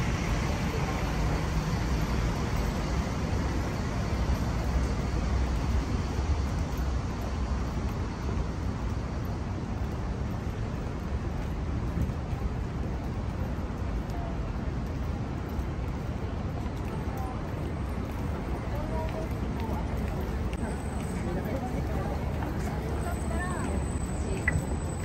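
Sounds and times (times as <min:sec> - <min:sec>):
street traffic hum: 0:00.0 - 0:25.0.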